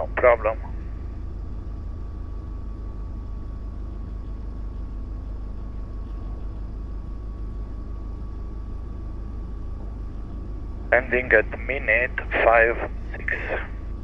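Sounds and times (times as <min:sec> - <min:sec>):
faint high hum: 0:00.0 - 0:14.0
light aircraft engine droning: 0:00.0 - 0:14.0.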